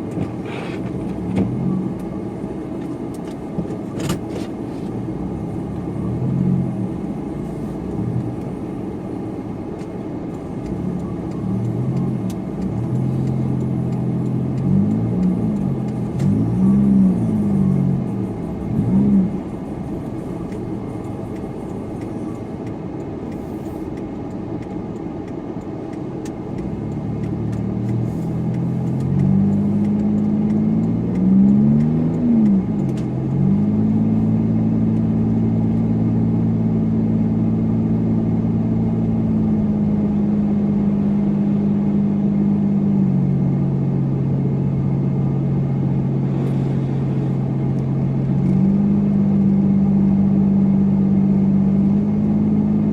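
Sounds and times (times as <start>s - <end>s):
car engine running: 0.0s - 52.9s
road noise: 0.0s - 52.9s.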